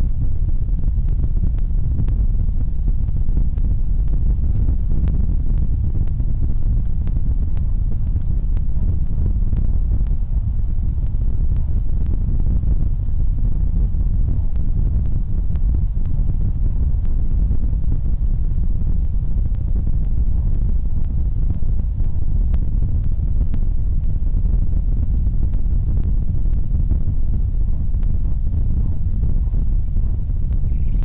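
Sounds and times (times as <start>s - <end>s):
wind buffeting microphone: 0.0s - 31.0s
faint ticks: 1.0s - 10.2s, 10.9s - 31.0s.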